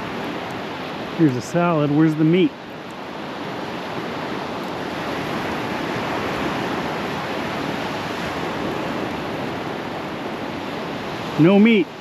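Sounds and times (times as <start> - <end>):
surf washing up beach: 0.0 - 12.0
wind: 0.0 - 12.0.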